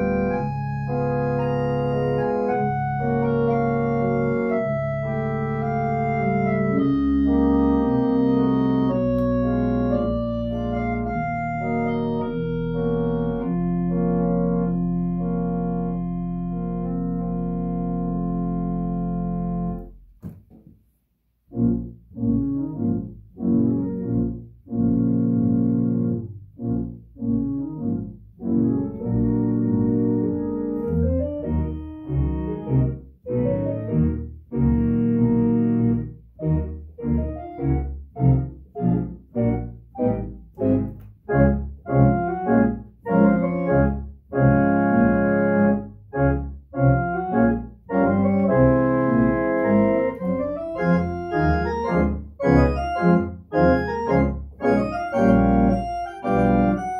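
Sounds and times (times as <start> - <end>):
organ playing sustained chords: 0.0 - 20.0, 21.5 - 56.9
deep organ pedal bass: 0.0 - 20.2, 21.5 - 56.9.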